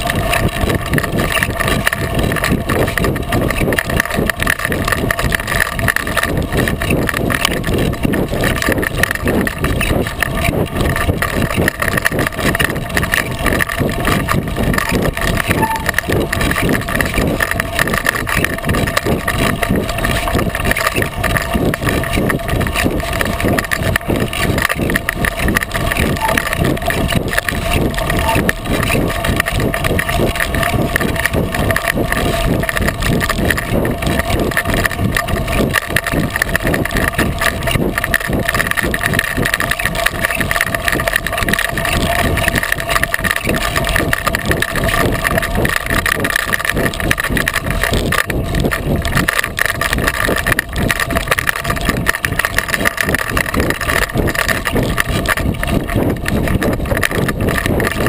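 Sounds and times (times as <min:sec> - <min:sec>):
clatter of small knocks: 0:00.0 - 0:58.0.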